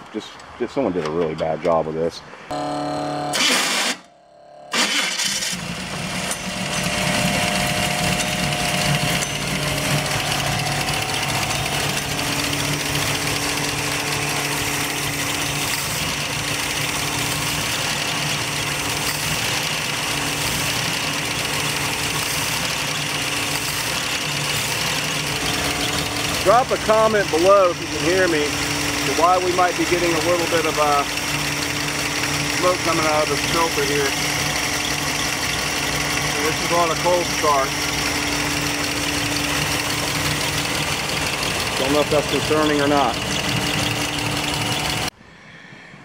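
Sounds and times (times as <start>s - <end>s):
car engine starting and idling: 4.7s - 45.2s.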